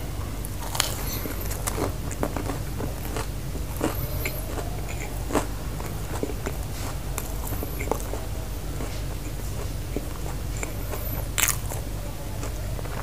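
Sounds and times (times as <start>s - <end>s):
man chewing food: 0.0s - 13.0s
steady low hum: 0.0s - 13.0s.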